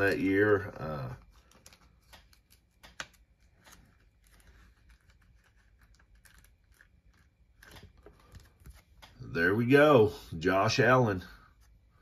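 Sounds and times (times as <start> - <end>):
trading cards and plastic rustling: 0.0 - 9.6.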